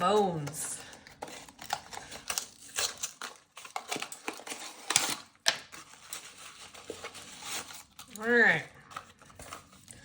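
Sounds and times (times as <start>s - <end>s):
packaging crinkling: 0.4s - 10.0s.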